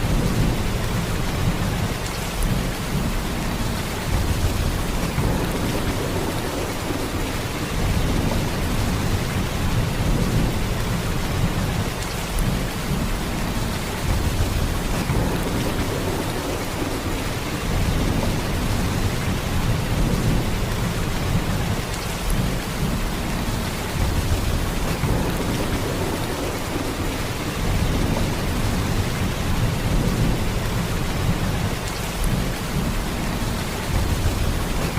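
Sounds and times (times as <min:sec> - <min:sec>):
heavy rain downpour: 0:00.0 - 0:34.9.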